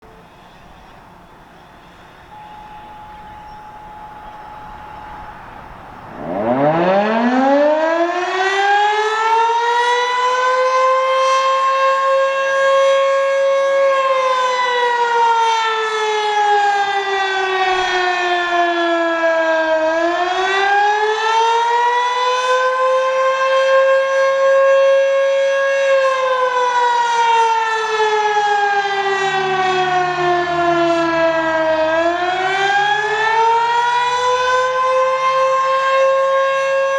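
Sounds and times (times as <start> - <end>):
fire siren wailing: 0.0 - 36.9.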